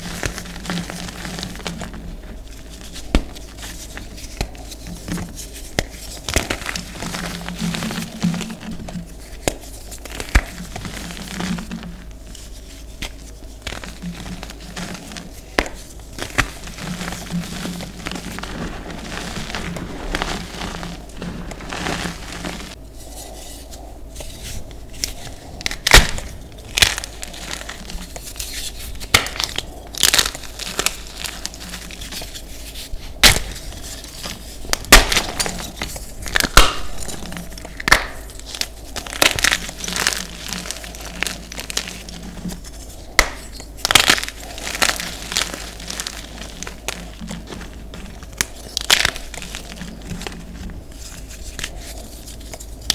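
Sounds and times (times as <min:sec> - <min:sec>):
chalk block cracking and crunching: 0:00.0 - 0:22.8, 0:23.5 - 0:52.9
hands crumbling soft chalk: 0:00.0 - 0:52.9.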